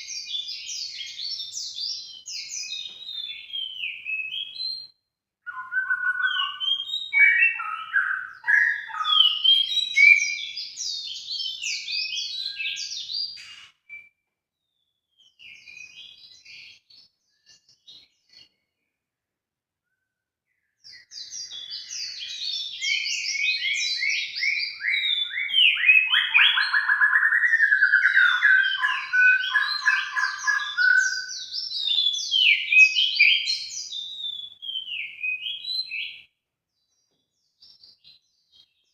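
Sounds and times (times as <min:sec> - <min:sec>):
songbird chirping and trilling: 0:00.0 - 0:38.9.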